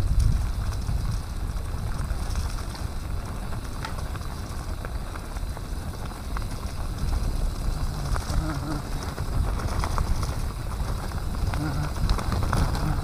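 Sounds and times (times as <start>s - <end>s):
bike clicks and rattles: 0.0s - 13.0s
tyres rolling on dirt: 0.0s - 13.0s
wind buffeting microphone: 0.0s - 13.0s.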